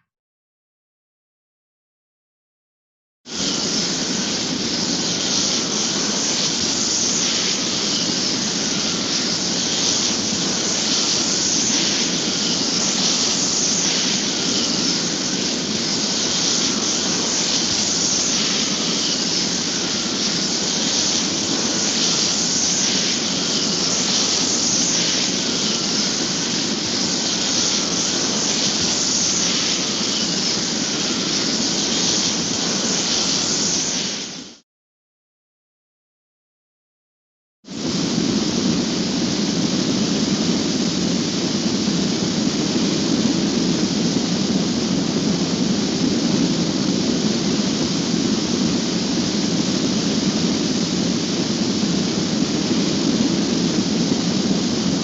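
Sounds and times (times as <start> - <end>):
loud rushing hiss: 3.3 - 34.6, 37.7 - 55.0.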